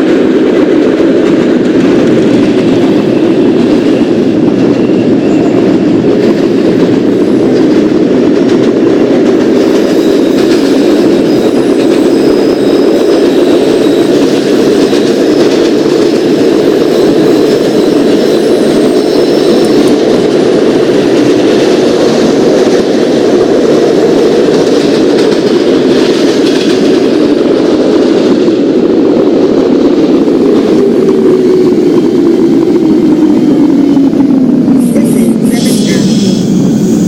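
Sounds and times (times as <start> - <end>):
train rumbling along track: 0.0 - 37.0.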